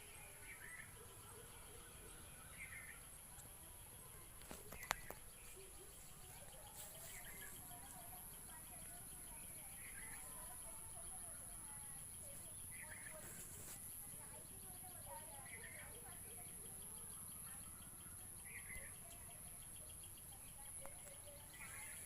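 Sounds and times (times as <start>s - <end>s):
soft bird chirps: 0.0s - 22.0s.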